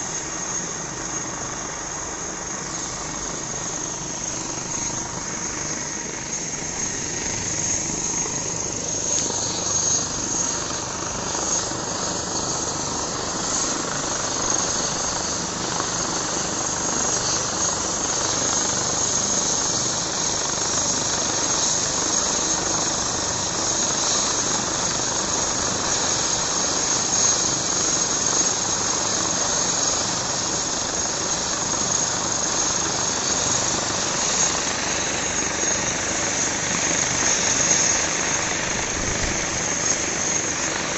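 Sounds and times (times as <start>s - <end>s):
helicopter rotor rush: 0.0s - 40.9s
helicopter turbine whine: 0.0s - 40.9s.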